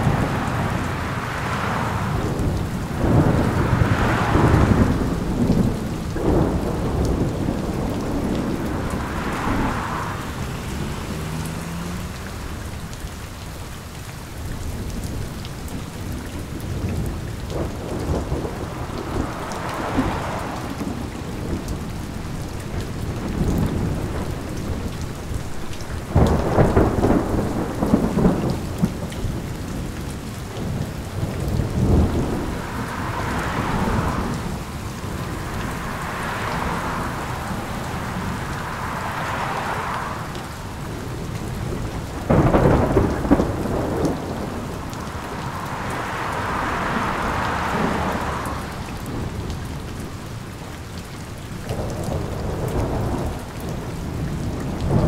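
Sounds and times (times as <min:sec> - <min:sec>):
thunder rolling: 0:00.0 - 0:13.4, 0:14.7 - 0:50.2, 0:51.7 - 0:55.0
steady rain: 0:00.0 - 0:55.0.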